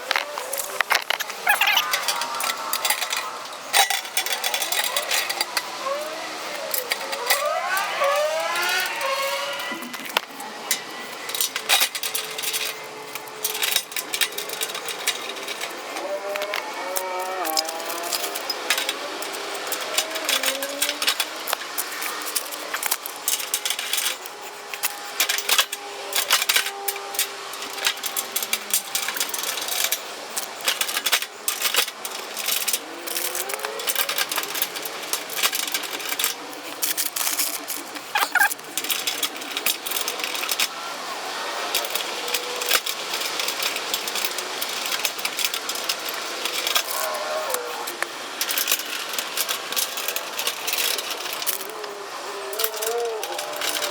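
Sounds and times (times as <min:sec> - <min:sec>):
parts clicking and rattling: 0:00.0 - 0:53.9.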